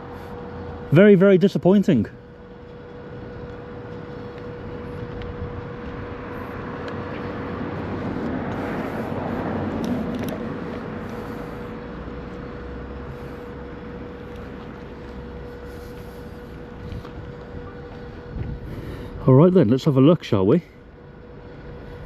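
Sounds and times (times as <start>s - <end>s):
faint steady hum: 0.0s - 22.0s
road vehicle passing by: 2.0s - 22.0s.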